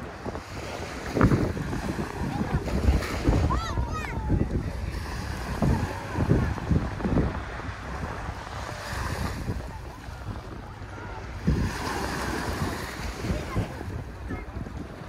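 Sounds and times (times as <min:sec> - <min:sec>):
small waves washing on beach: 0:00.0 - 0:15.0
wind buffeting microphone: 0:00.0 - 0:15.0.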